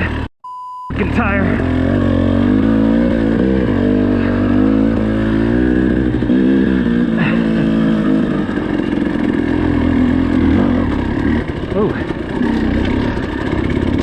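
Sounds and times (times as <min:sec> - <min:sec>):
dirt bike engine revving: 0:00.9 - 0:14.0.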